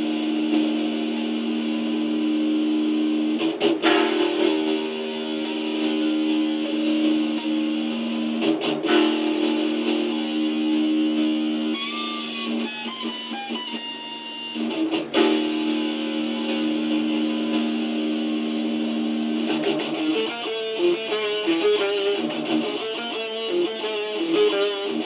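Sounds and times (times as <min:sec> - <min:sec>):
electric guitar metal riffs: 0:00.0 - 0:25.0.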